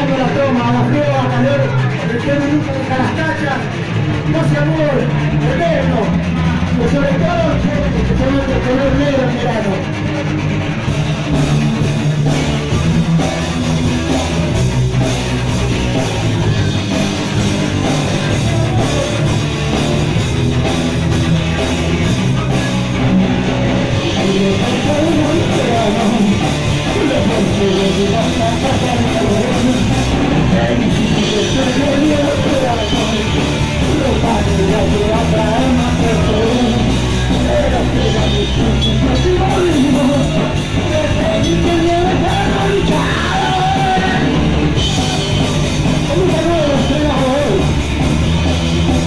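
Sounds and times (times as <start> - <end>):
punk rock band playing live: 0.0 - 49.0.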